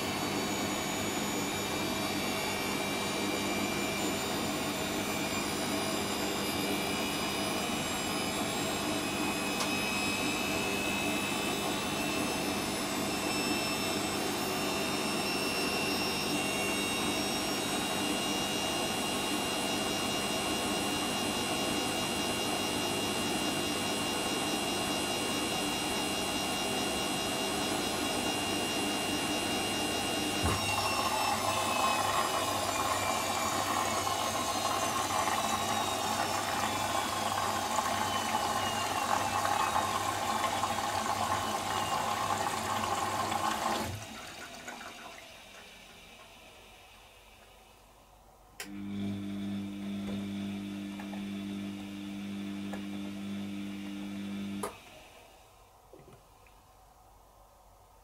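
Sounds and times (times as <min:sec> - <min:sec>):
washing machine motor whine: 0:00.0 - 0:55.9.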